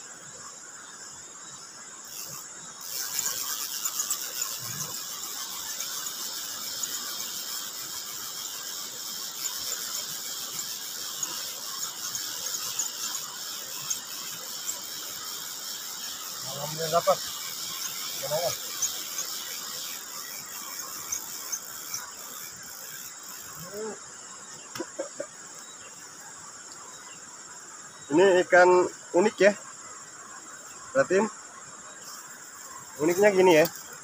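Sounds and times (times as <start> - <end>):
cicadas buzzing: 0.0 - 34.0
faint high insect trill: 0.0 - 34.0.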